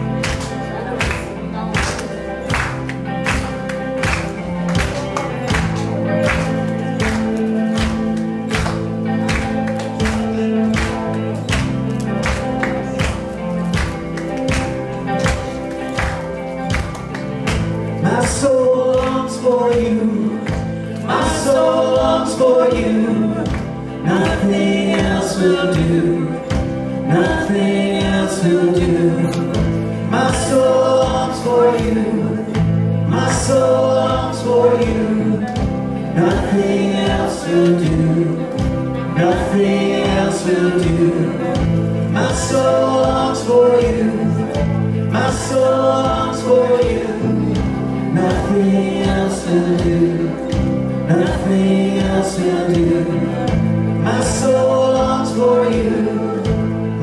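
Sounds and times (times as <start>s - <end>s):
live gospel band with singers: 0.0s - 57.0s.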